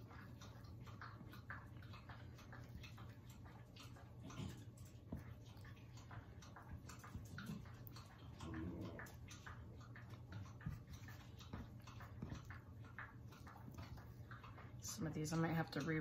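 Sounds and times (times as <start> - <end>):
light clicks and ticks: 0.0 - 16.0
low steady hum: 0.0 - 16.0.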